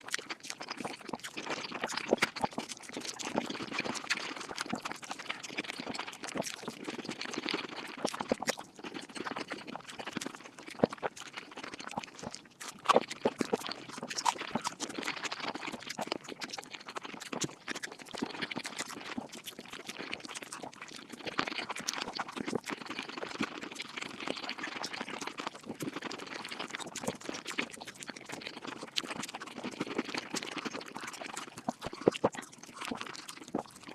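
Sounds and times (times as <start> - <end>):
sped-up chewing and mouth noises: 0.0 - 33.9.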